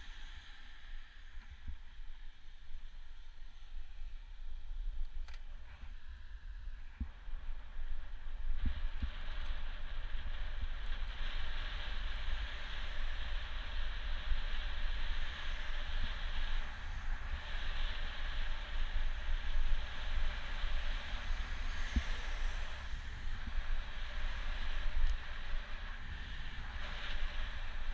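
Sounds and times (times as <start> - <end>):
wind rushing on microphone: 0.0 - 27.9.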